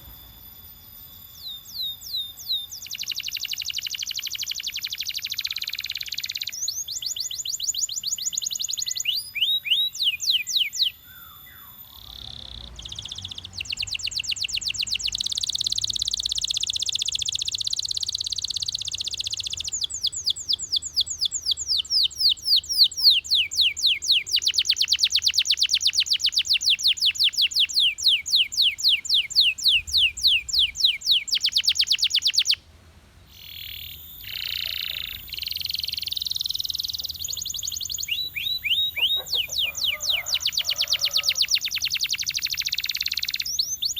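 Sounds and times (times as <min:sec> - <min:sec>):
canary trilling: 0:00.9 - 0:32.6, 0:33.3 - 0:43.9.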